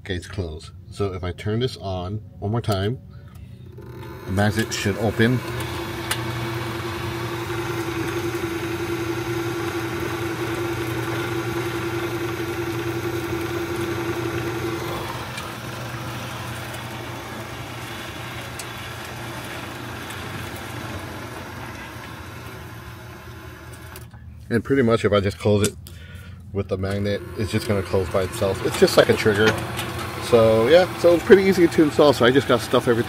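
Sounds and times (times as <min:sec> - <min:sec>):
gate motor humming: 0:03.3 - 0:24.3, 0:26.8 - 0:33.0.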